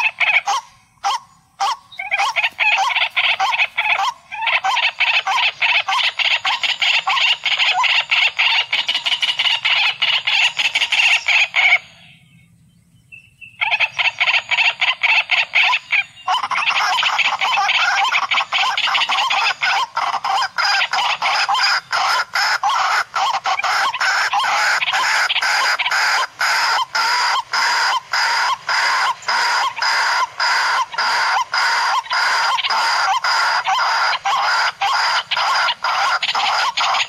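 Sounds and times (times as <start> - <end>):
water hen calling: 0.0 - 12.1, 13.6 - 37.0.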